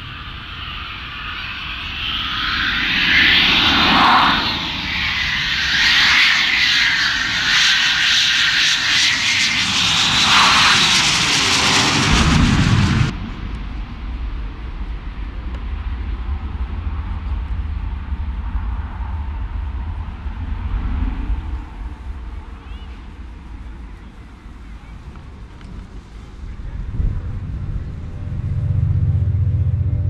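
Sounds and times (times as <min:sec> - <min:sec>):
jet engines in afterburner: 0:00.0 - 0:30.0
low jet rumble: 0:00.0 - 0:30.0.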